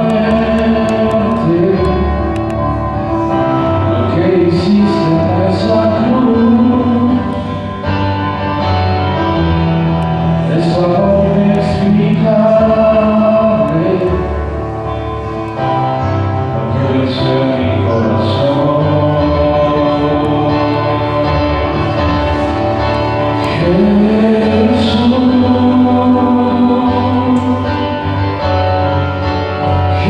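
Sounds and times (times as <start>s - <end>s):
instrumental accompaniment: 0.0s - 30.0s
voices singing slow song: 0.0s - 30.0s.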